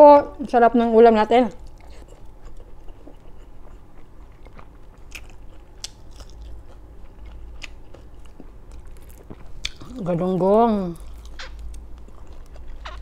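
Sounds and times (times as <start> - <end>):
person chewing crunchy food: 1.6 - 13.0.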